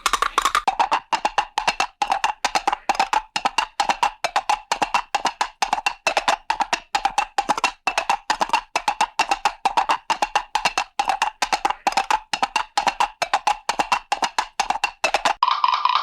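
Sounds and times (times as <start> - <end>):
rapid wood-block knocks: 0.0 - 16.0.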